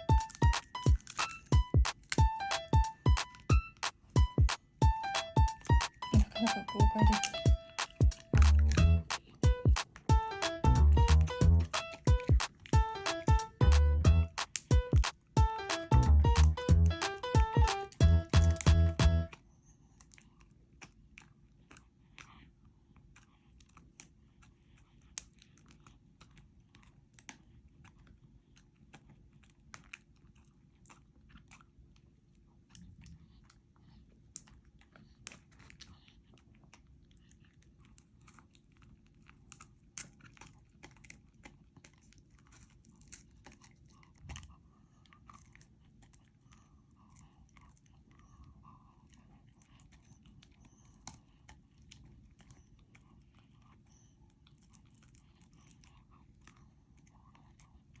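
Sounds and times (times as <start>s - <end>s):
dog crunching a shell: 0.0s - 6.4s, 7.0s - 58.0s.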